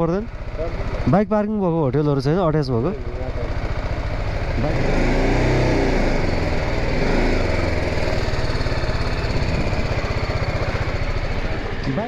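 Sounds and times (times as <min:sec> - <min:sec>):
motorcycle engine chugging: 0:00.0 - 0:12.0.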